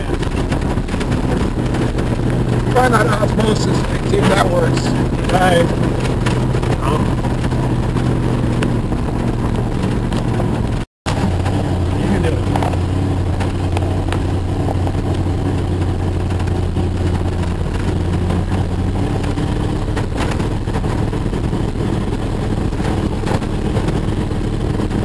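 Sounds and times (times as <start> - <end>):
car engine running from inside: 0.0 - 25.0
knocks and rattles: 0.0 - 25.0.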